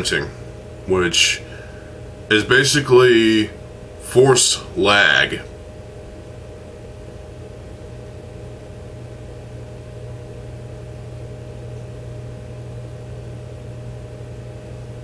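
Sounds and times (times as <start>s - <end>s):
low machine hum with hiss: 0.0s - 15.0s.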